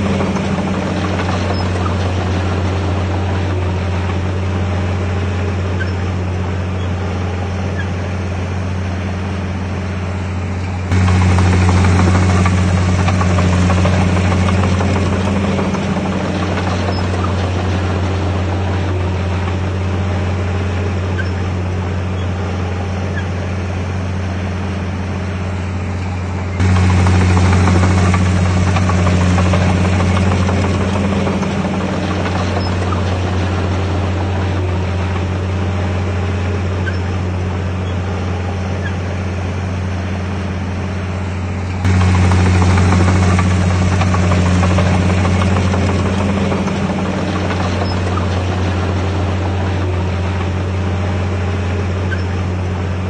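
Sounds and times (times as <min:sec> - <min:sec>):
bulldozer diesel engine droning: 0:00.0 - 0:53.0.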